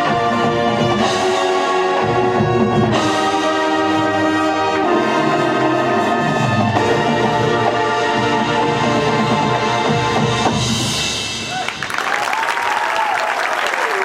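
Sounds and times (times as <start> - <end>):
brass band holding chords: 0.0 - 11.5.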